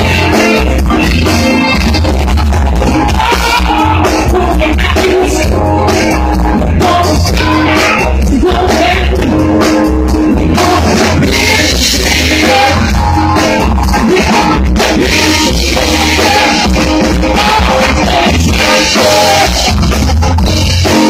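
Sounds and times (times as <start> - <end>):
person singing: 0.0 - 9.6, 10.3 - 20.0
live band playing: 0.0 - 21.0.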